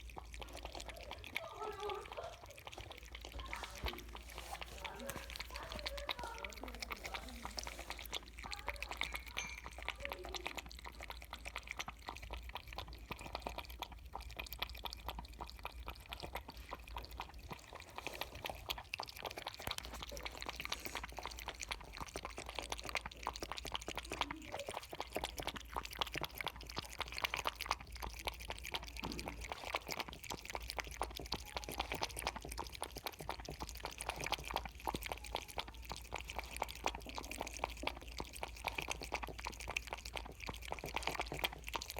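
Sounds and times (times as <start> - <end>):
kitten lapping milk: 0.0 - 41.9.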